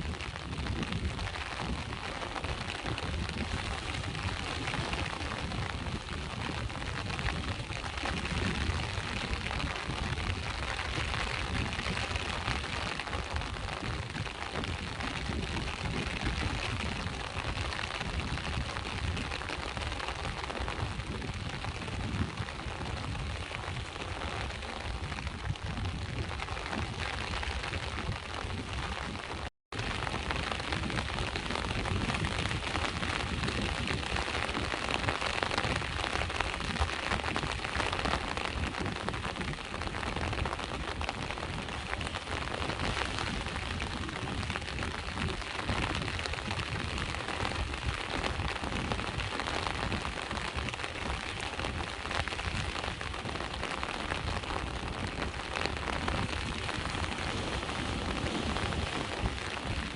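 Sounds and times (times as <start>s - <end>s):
rain hissing: 0.0s - 59.9s
surf rumbling: 0.0s - 59.9s.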